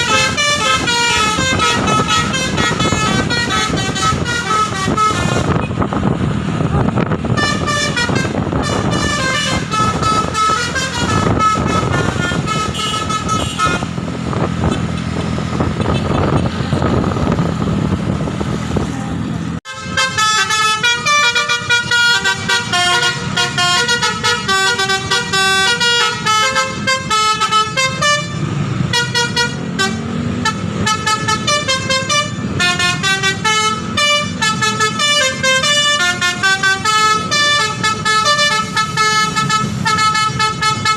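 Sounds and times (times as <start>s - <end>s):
musical bus horn melody: 0.0s - 5.8s, 7.2s - 15.2s, 19.6s - 40.9s
bus engine running: 0.0s - 40.9s.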